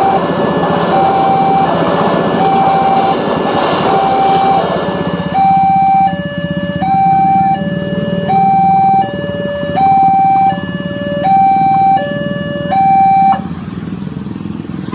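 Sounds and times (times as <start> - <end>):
level crossing two-tone alarm: 0.0 - 13.5.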